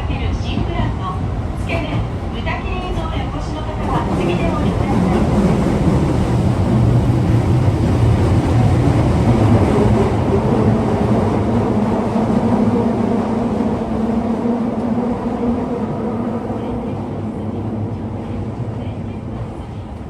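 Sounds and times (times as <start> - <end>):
subway car rumbling: 0.0 - 20.0.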